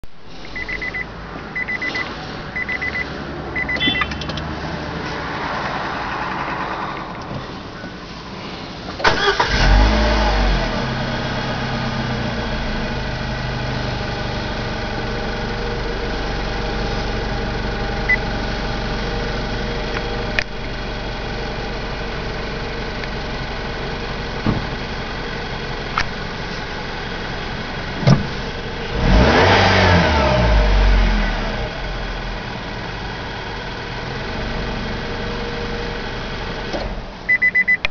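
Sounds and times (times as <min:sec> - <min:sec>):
car engine starting and idling: 0:00.2 - 0:37.9.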